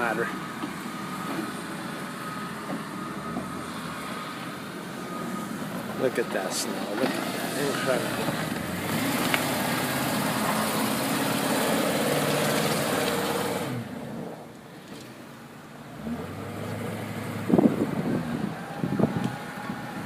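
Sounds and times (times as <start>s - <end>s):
low engine hum: 0.0s - 20.0s
vehicle engine running under load: 0.0s - 20.0s.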